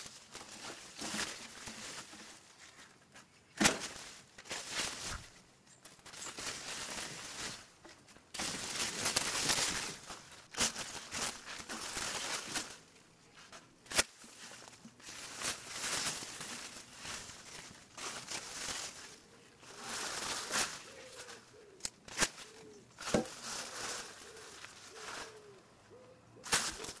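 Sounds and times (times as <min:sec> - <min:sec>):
bushes rustling: 0:00.0 - 0:27.0
twigs snapping: 0:03.6 - 0:25.6, 0:26.4 - 0:27.0.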